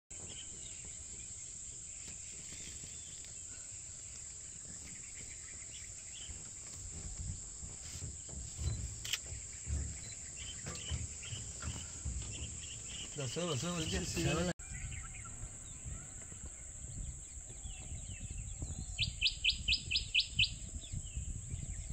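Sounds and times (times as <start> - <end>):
insects droning: 0.2 - 21.9
low rumbles: 2.9 - 21.9.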